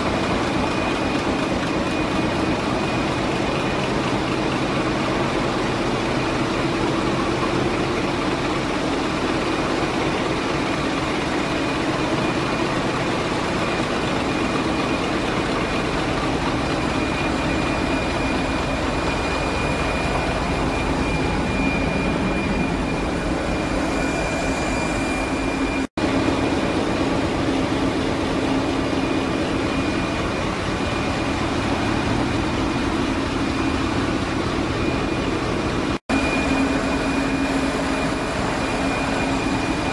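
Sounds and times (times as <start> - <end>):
engine room machinery drone: 0.0 - 39.9
high machinery whine: 0.0 - 39.9.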